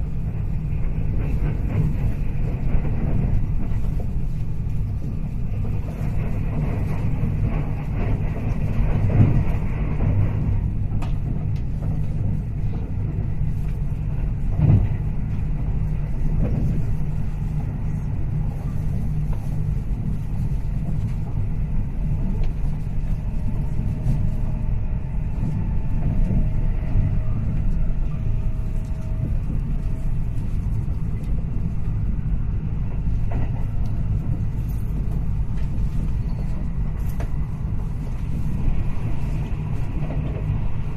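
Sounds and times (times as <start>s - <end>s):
moving vehicle rumble: 0.0s - 40.9s.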